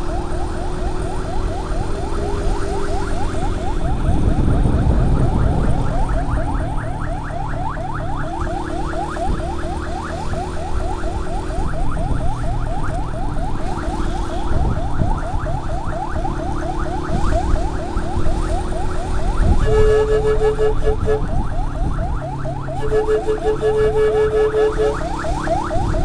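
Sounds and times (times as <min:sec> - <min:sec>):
electronic yelp siren: 0:00.0 - 0:26.0
vehicle engine and road noise: 0:00.0 - 0:26.0.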